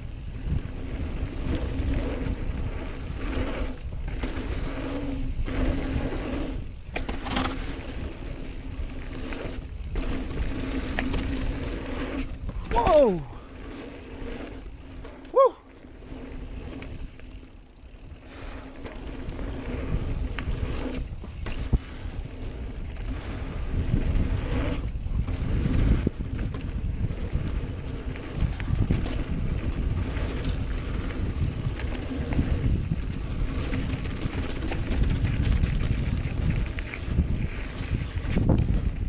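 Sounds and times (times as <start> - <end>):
mountain bike rattling on dirt trail: 0.0 - 39.0
wind on microphone: 0.0 - 39.0.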